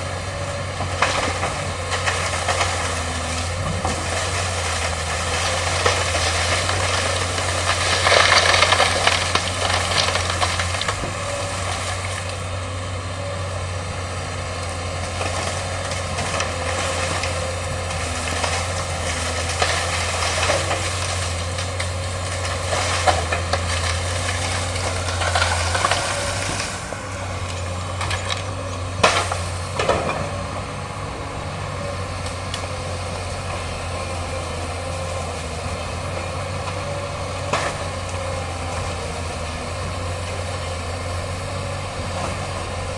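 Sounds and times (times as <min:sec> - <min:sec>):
excavator diesel engine: 0:00.0 - 0:42.9
bamboo cracking and snapping: 0:00.4 - 0:30.8, 0:31.8 - 0:42.9.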